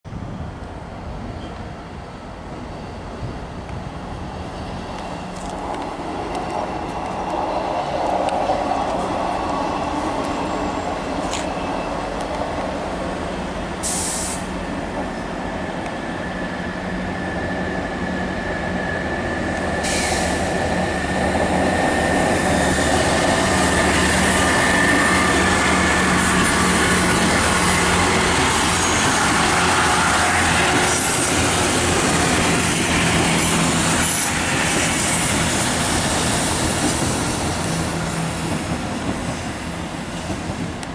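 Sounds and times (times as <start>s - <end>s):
diesel train engines droning: 0.1s - 40.9s.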